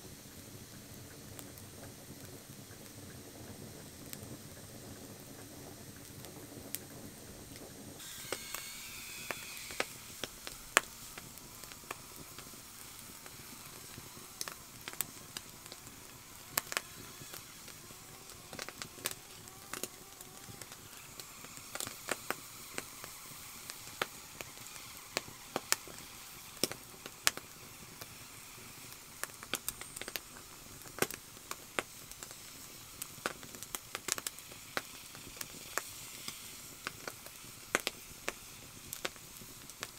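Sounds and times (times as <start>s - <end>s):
campfire crackling and popping: 0.0s - 39.9s
faint hiss: 0.0s - 39.9s.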